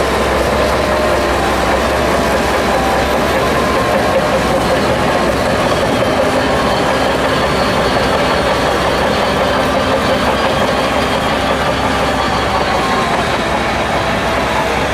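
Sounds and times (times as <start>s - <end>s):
bulldozer diesel engine under load: 0.0s - 14.9s
steel tracks clattering: 0.0s - 14.9s.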